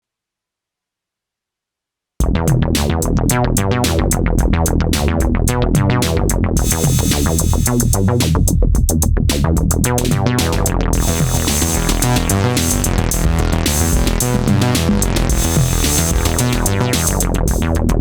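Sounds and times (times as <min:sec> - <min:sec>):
drum machine beat: 0:02.2 - 0:18.0
synthesizer bass line: 0:02.2 - 0:18.0.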